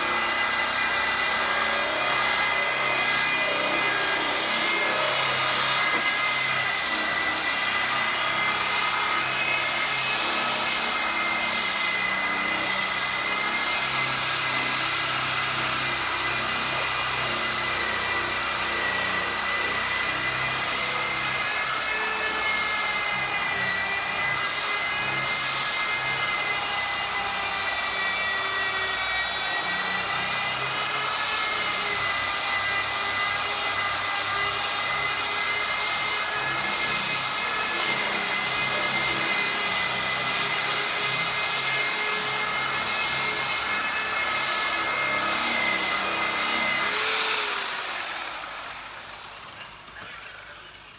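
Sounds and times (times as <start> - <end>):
electric car polisher whining: 0.0 - 50.9.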